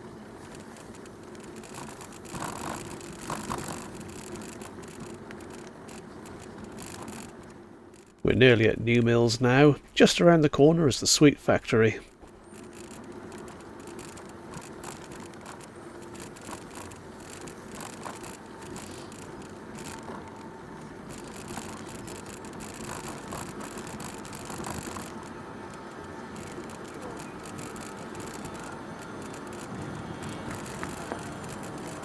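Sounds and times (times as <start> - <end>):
bicycle rattling: 0.0 - 9.6, 12.1 - 32.0
bicycle tyres rolling on path: 0.0 - 32.0.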